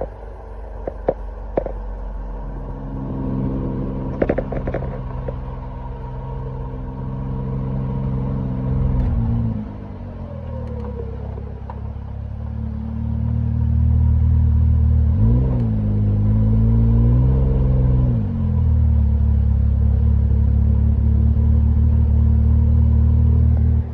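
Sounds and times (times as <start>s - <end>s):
vehicle engine revving: 0.0s - 23.9s.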